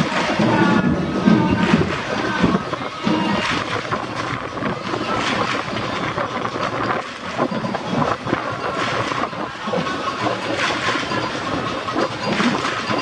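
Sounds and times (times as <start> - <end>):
crowd of many voices: 0.0 - 13.0.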